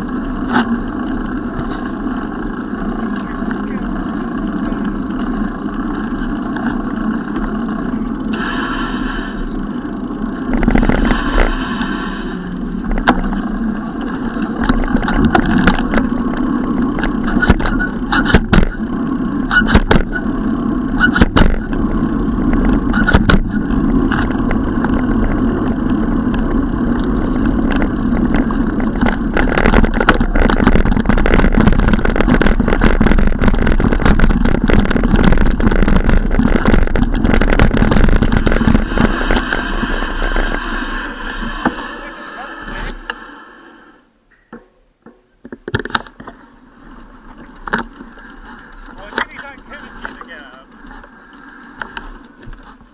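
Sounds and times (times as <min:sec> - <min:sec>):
sharp clicks and rattles: 0:00.0 - 0:08.5, 0:09.5 - 0:43.2, 0:44.4 - 0:52.9
bicycle riding rumble: 0:00.0 - 0:52.9.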